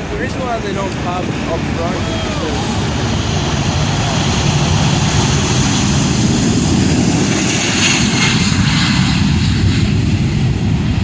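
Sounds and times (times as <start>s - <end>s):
jet engines at takeoff thrust: 0.0s - 11.0s.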